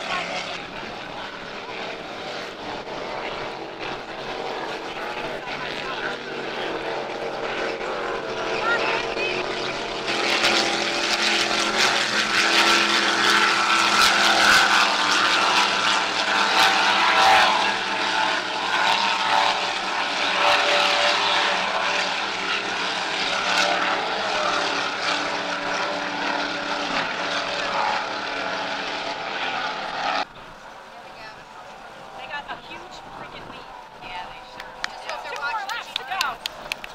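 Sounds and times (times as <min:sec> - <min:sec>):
powerboat engines droning: 0:00.0 - 0:36.9.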